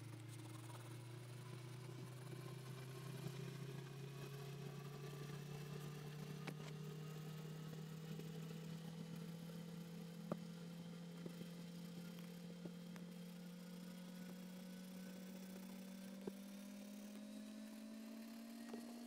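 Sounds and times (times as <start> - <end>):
low motor-like hum: 0.0 - 19.0.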